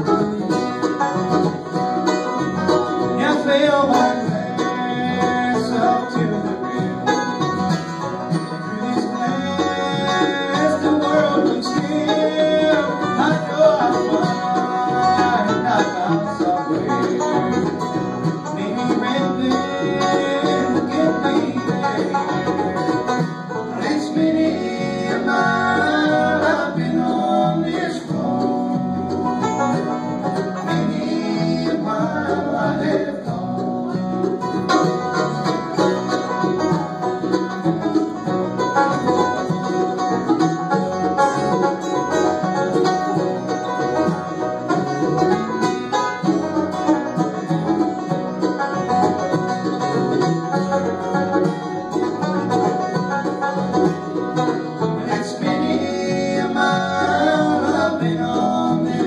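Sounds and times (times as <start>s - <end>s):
acoustic guitar: 0.0s - 59.0s
banjo rolls: 0.0s - 59.0s
bass: 0.0s - 59.0s
mandolin: 0.0s - 59.0s.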